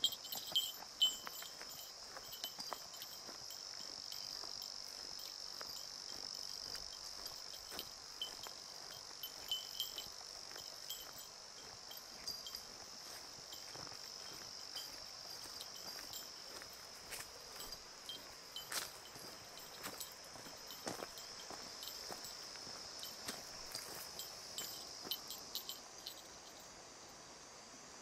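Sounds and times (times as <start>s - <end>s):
insects singing: 0.0s - 27.0s.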